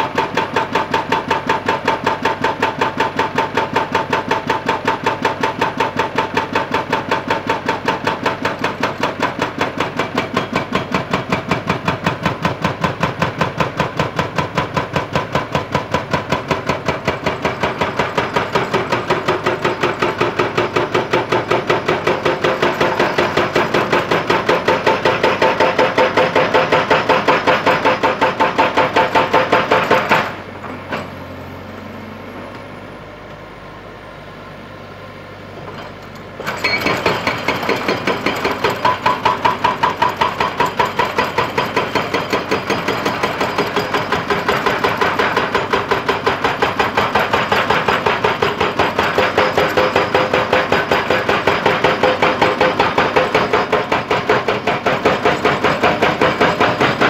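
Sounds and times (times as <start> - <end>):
hydraulic breaker pounding rock: 0.0 - 31.2, 35.6 - 57.0.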